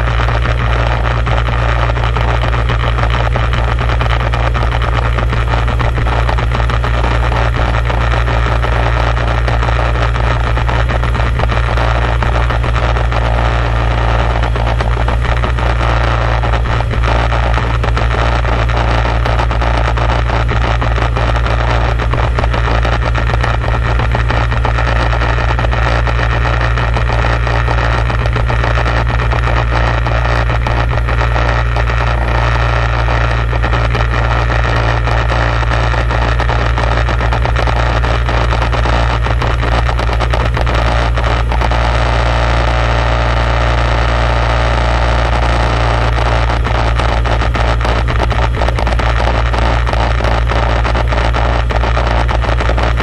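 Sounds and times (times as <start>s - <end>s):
motor engine running under load: 0.0s - 53.0s
small crackles: 0.0s - 53.0s.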